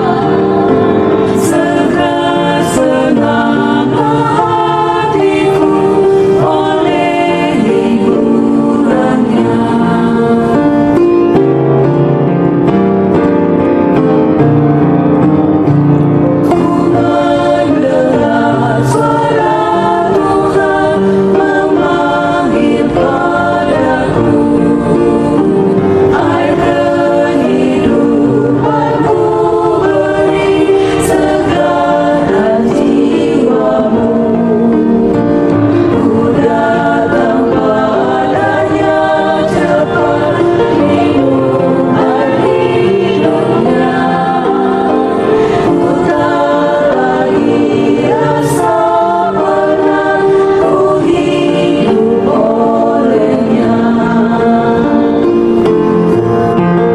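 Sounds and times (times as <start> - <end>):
choir singing a hymn: 0.0 - 56.9.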